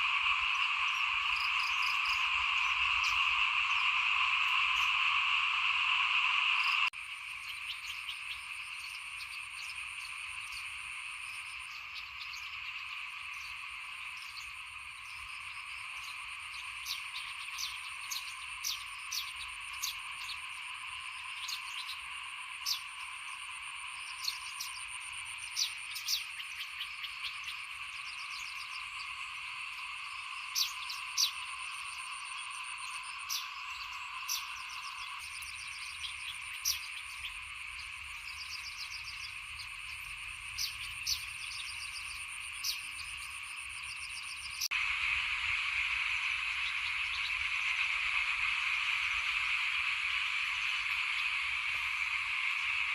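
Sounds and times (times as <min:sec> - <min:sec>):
frogs trilling: 0:00.0 - 0:52.9
high-pitched whine: 0:00.0 - 0:52.9.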